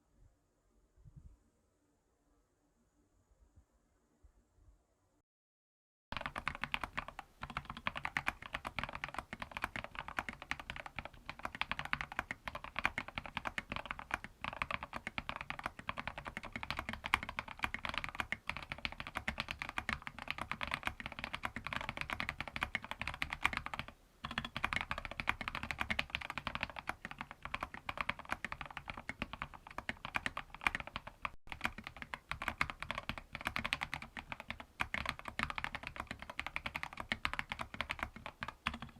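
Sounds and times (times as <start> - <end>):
mechanical keyboard typing: 6.2 - 38.9.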